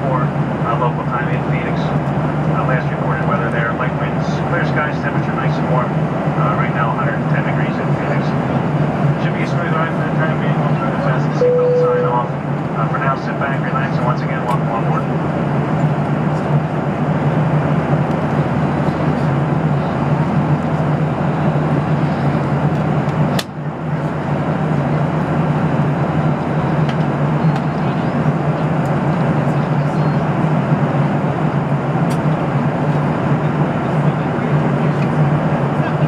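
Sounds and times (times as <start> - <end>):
airliner cabin drone: 0.0 - 36.0.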